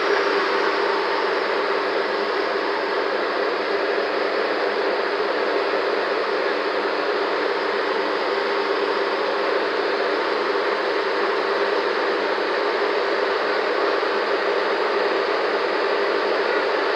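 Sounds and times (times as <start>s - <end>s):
road-paving machinery running: 0.0s - 16.9s.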